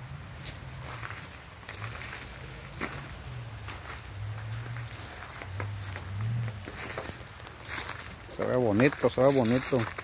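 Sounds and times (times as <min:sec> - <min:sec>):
rain pattering on ice: 0:00.0 - 0:10.0.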